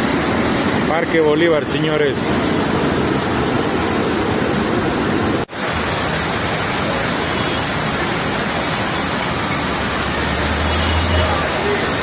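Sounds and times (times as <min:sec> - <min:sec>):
heavy rain: 0:00.0 - 0:12.0
running water: 0:00.0 - 0:12.0.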